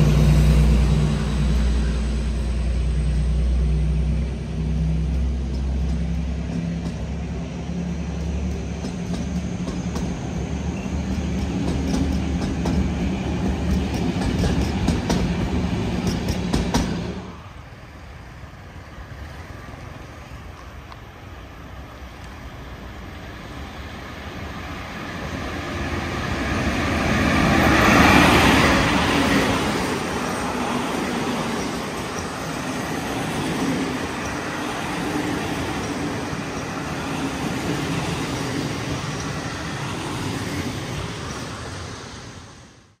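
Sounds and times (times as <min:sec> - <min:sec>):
train wheels rumbling: 0:00.0 - 0:42.9
diesel train passing: 0:00.0 - 0:43.0.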